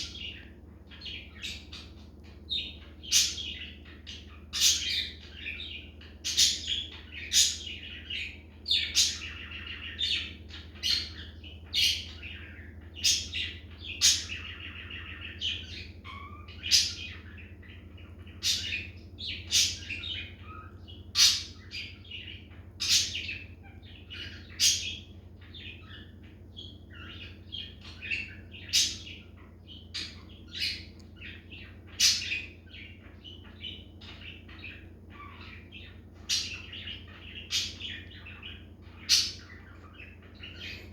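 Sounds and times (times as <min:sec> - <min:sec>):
budgerigar chirping and warbling: 0:00.0 - 0:40.9
low steady hum: 0:00.0 - 0:40.9.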